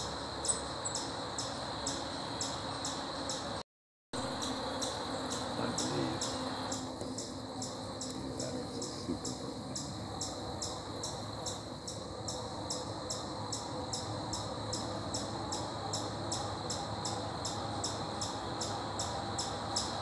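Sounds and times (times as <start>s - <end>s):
high-pitched insect trill: 0.0s - 3.6s, 4.2s - 20.0s
insects chirping: 0.0s - 3.6s, 4.2s - 20.0s.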